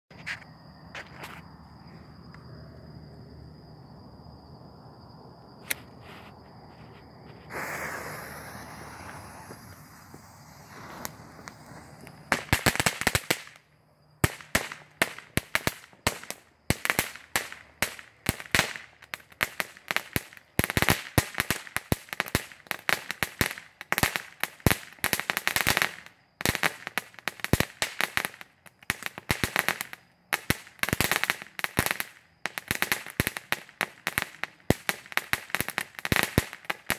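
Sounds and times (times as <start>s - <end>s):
firework hiss: 5.6s - 13.6s, 14.2s - 36.9s
firework crackling pops: 7.3s - 36.9s.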